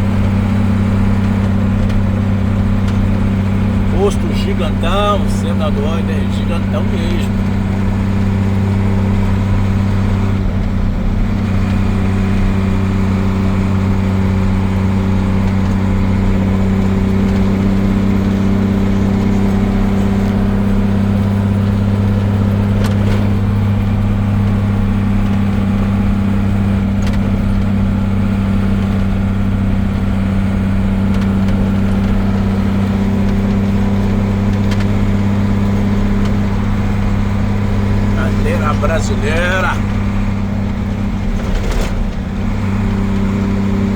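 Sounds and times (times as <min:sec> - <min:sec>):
road and tyre noise: 0:00.0 - 0:43.9
truck engine droning: 0:00.0 - 0:43.9.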